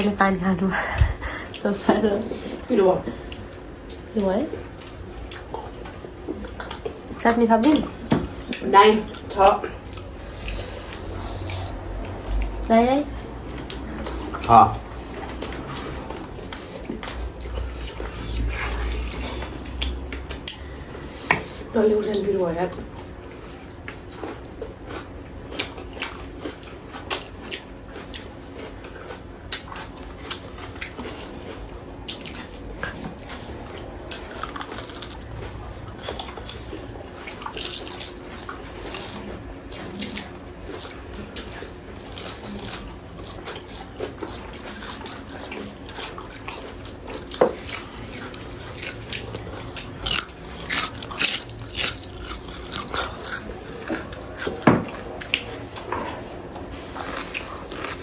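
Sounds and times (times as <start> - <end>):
people chewing food: 0.0 - 58.0.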